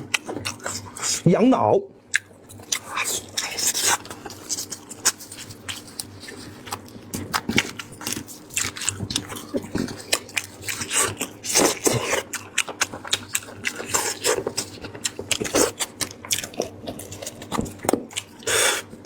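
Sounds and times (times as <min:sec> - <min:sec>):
wet eating sounds: 0:02.1 - 0:19.0.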